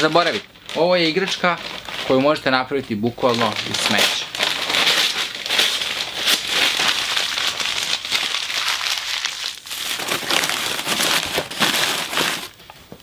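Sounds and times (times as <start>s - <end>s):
paper crumpling and rustling: 0.0s - 12.6s.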